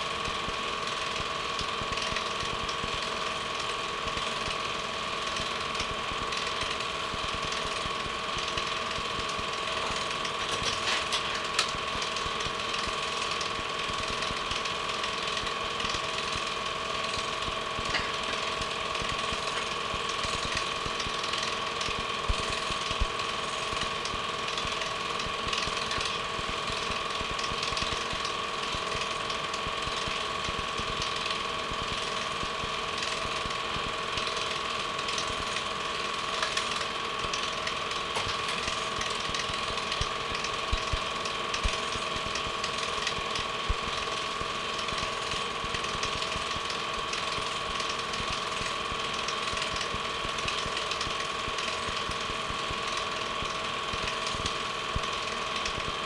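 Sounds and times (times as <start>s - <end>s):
film projector clattering: 0.0s - 56.0s.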